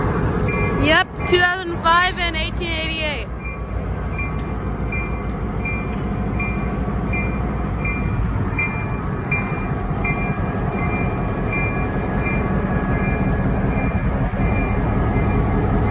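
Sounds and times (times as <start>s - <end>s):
freight train rumbling: 0.0s - 15.9s.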